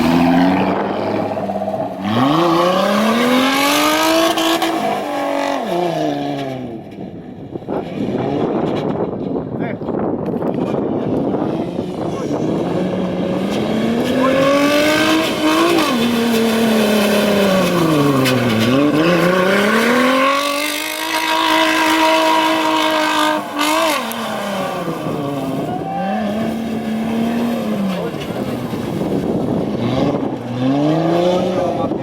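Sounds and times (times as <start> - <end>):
off-road vehicle engine revving: 0.0 - 7.0, 10.5 - 32.0.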